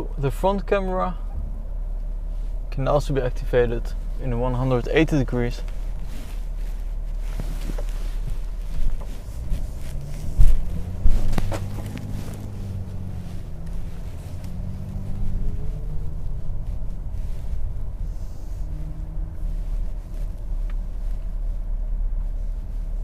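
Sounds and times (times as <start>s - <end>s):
diesel engine droning: 0.0s - 23.0s
road noise: 0.0s - 23.0s.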